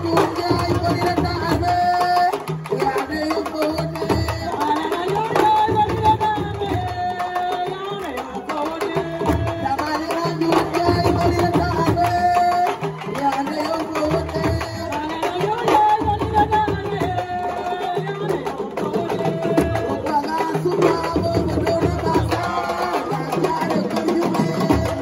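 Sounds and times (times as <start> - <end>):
fast hand drum beat: 0.0 - 25.0
woman singing into a microphone: 0.0 - 25.0.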